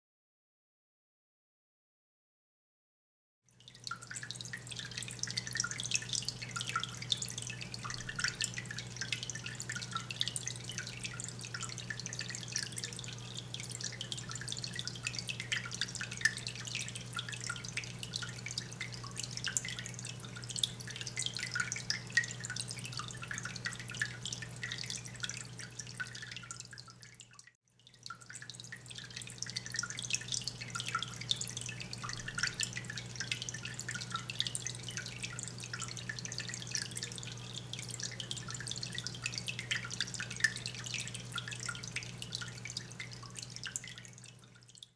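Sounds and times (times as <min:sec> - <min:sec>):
water trickling and dripping: 0:03.5 - 0:44.9
low pump hum: 0:03.6 - 0:44.9.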